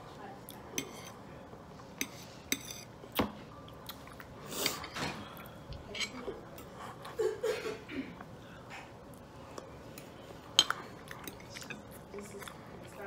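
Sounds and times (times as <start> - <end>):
people chewing and smacking: 0.4 - 13.0.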